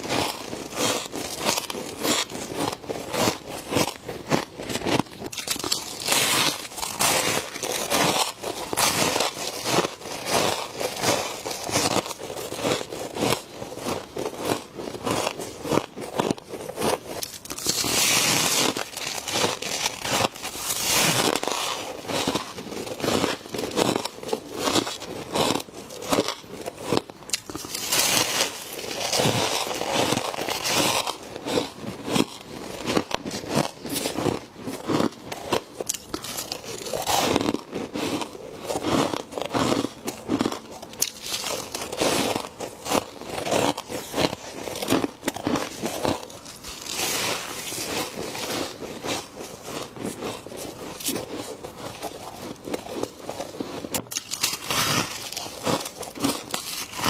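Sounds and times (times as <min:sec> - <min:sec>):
frost crunching being chewed: 0:00.0 - 0:57.0.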